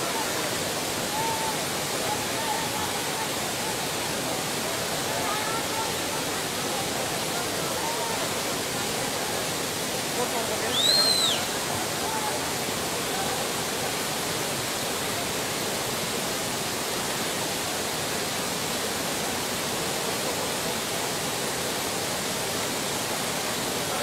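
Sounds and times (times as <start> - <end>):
rushing flood water: 0.0 - 24.0.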